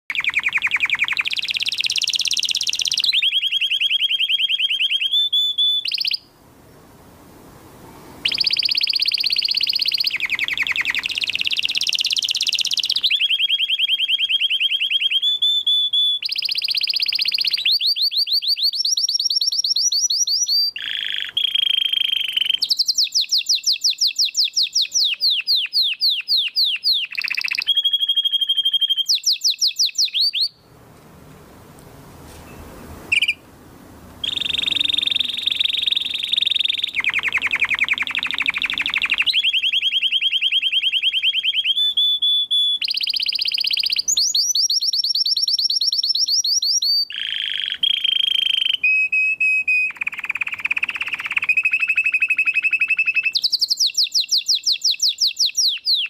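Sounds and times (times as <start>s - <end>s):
canary singing trills: 0.1s - 6.3s, 8.2s - 30.7s, 32.4s - 33.5s, 34.2s - 56.0s.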